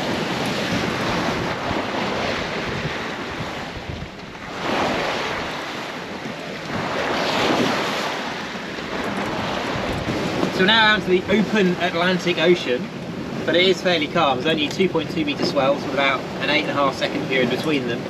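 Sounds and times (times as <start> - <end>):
sea splashing along hull: 0.0 - 18.0
wind buffeting microphone: 0.0 - 18.0.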